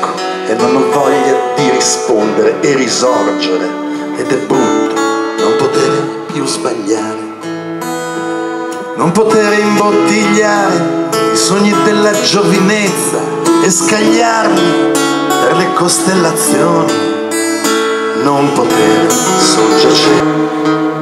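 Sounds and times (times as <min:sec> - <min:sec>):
acoustic band playing: 0:00.0 - 0:21.0
strummed acoustic guitar: 0:00.0 - 0:21.0.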